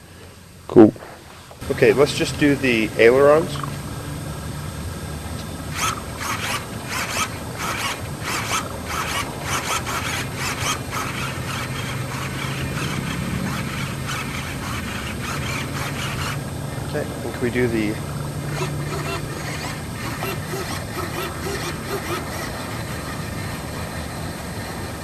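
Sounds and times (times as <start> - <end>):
steady low hum: 0.0 - 25.0
servos whirring in short bursts: 0.8 - 25.0.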